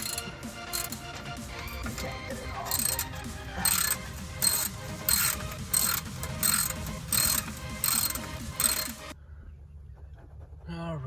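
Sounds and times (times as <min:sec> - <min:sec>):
ratchet wrench clicking: 0:00.0 - 0:09.2.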